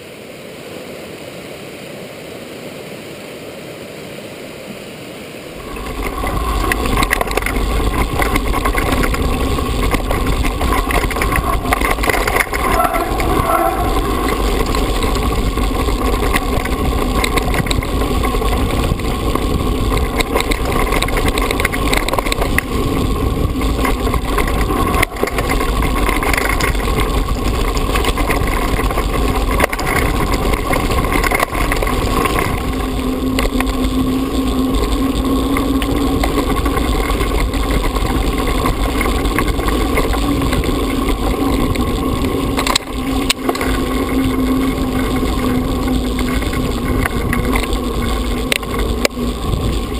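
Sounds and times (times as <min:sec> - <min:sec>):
bike rattling over stones: 0:05.6 - 0:49.9
tyres on gravel: 0:05.6 - 0:49.9
wind on microphone: 0:05.6 - 0:49.9.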